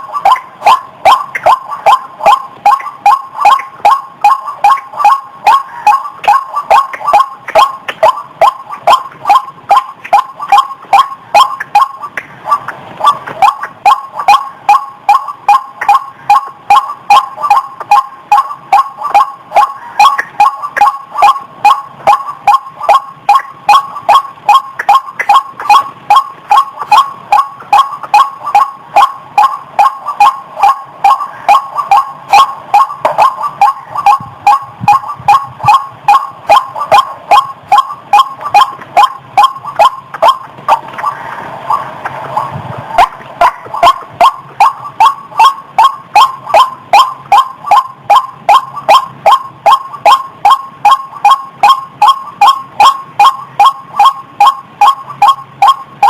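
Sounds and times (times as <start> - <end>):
waterhen calling: 0.0 - 51.8.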